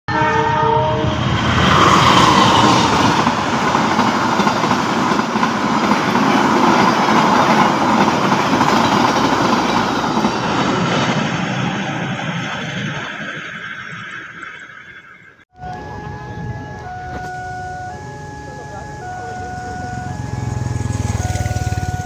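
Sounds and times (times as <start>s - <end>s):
train passing on rails: 0.1s - 22.0s.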